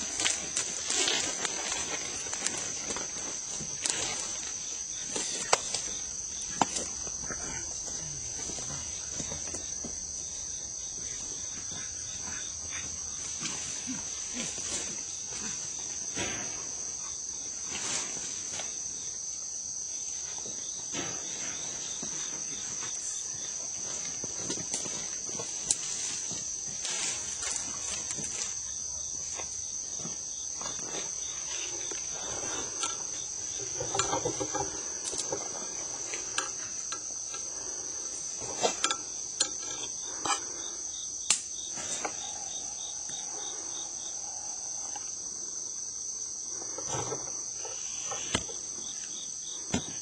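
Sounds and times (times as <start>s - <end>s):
insect chorus buzzing: 0.0s - 50.0s.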